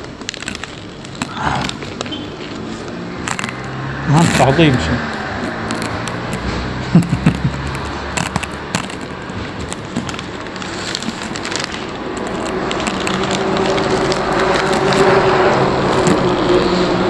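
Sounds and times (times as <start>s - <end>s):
paper wrapping crinkling: 0.0s - 17.0s.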